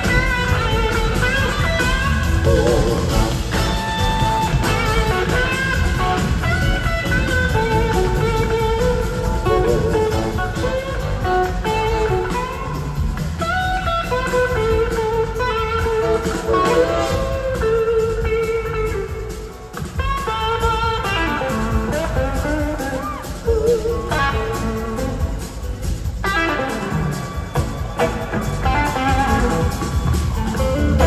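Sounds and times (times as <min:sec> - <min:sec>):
blues-rock band playing live: 0:00.0 - 0:31.0
electric guitar with bent notes: 0:00.0 - 0:31.0.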